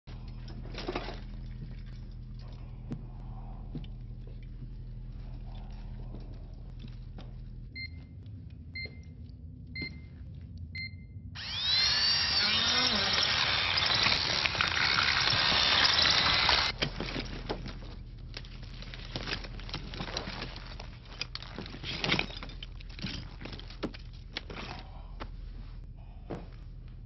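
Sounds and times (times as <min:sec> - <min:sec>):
low steady hum: 0:00.1 - 0:14.0, 0:14.6 - 0:27.0.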